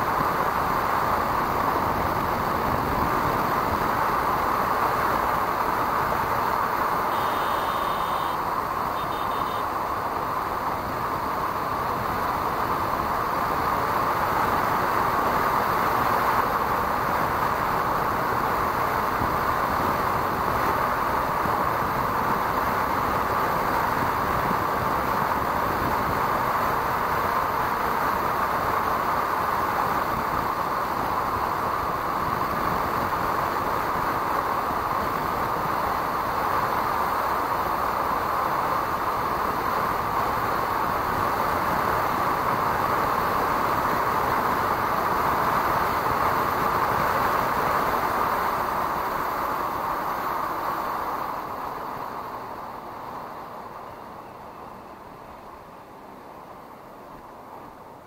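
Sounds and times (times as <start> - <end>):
motorcycle road noise: 0.0 - 58.0.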